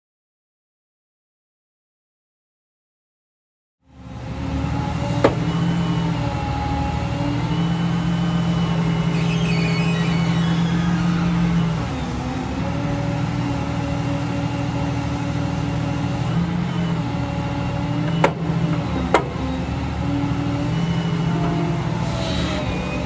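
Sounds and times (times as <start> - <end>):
excavator diesel engine running: 3.9 - 23.0
hydraulic whine: 3.9 - 23.0.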